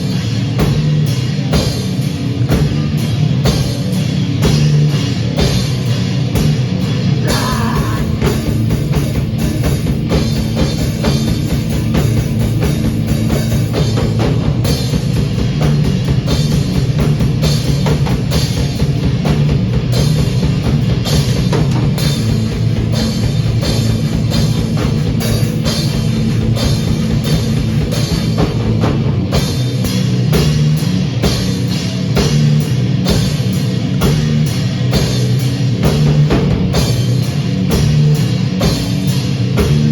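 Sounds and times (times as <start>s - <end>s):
drum kit beat: 0.0s - 39.9s
electric guitar: 0.0s - 39.9s.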